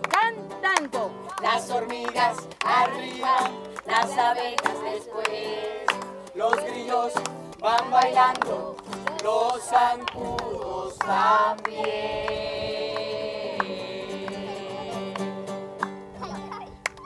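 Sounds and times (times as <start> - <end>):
group singing with instruments: 1.0 - 15.6.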